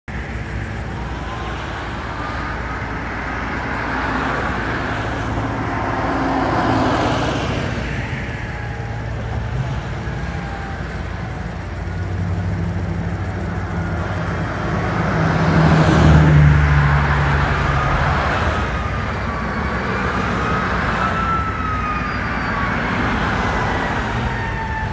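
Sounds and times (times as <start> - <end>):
heavy vehicle engine: 0.1 - 24.9
road traffic passing: 0.1 - 24.9.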